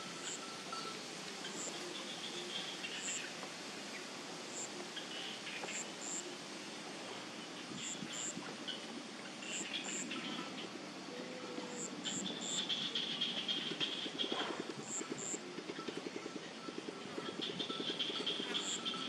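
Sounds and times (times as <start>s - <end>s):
steady hiss: 0.0s - 16.6s.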